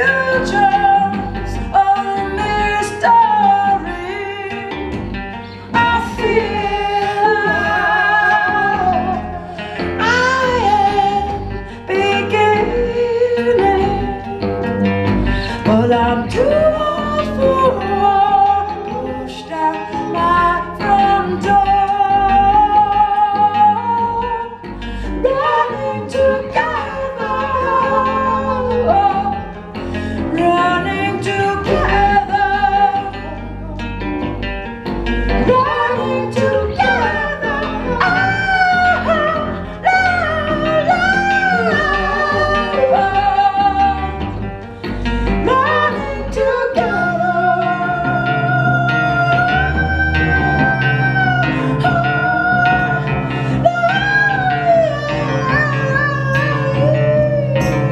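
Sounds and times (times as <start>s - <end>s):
person singing with vibrato: 0.0s - 57.9s
plucked guitar: 0.0s - 57.9s.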